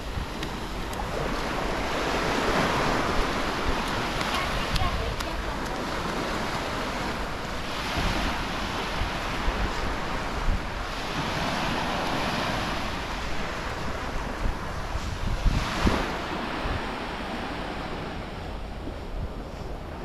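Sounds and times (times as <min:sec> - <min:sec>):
sea waves breaking: 0:00.0 - 0:20.0
wind rumbling on microphone: 0:00.0 - 0:20.0.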